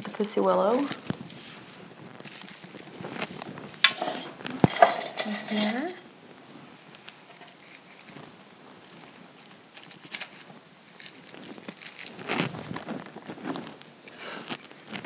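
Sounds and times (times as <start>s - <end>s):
dry moss rustling and crinkling: 0.0s - 15.0s.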